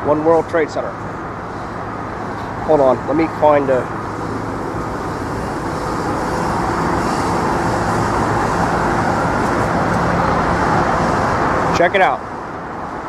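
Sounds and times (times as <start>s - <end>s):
traffic crossing a bridge: 0.0s - 13.0s.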